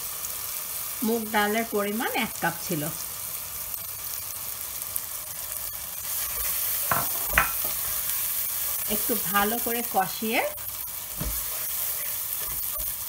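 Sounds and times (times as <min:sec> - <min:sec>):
lentils sizzling in hot oil: 0:00.0 - 0:13.0.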